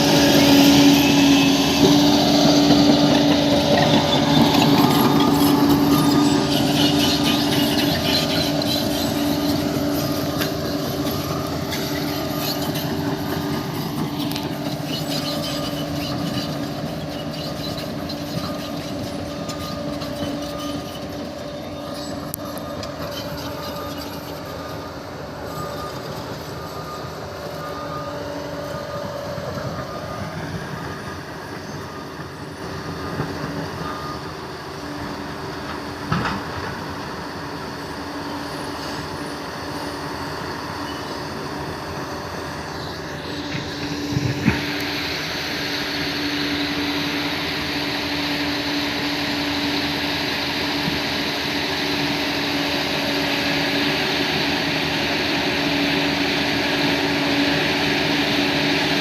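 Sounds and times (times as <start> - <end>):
bulldozer engine droning: 0.0 - 59.0.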